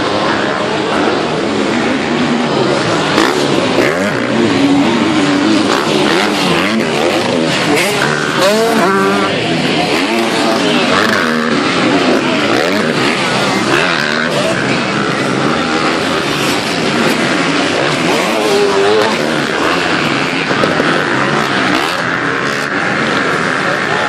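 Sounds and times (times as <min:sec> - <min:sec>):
motocross bikes revving: 0:00.0 - 0:24.0.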